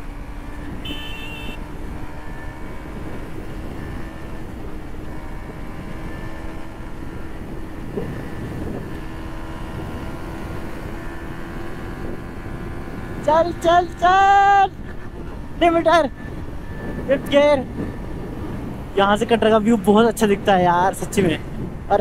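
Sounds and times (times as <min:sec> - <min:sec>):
motorcycle engine cruising: 0:00.0 - 0:22.0
wind rush: 0:00.0 - 0:22.0.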